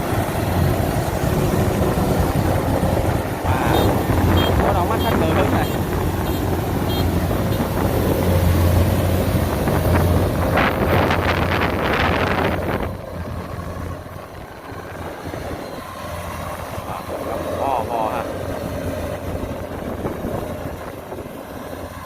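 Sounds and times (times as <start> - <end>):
combine harvester diesel drone: 0.0 - 22.0
wind on microphone: 0.0 - 22.0.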